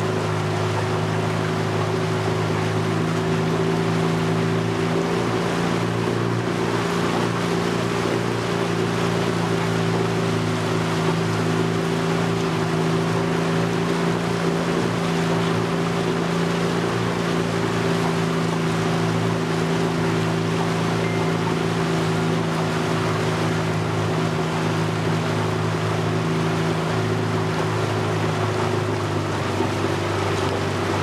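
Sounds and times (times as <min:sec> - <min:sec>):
outboard motor running: 0:00.0 - 0:31.0
water washing along hull: 0:00.0 - 0:31.0.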